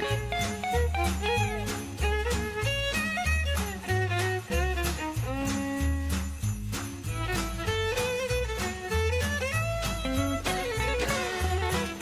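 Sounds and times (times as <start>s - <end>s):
upbeat music with jingle bells: 0.0s - 12.0s.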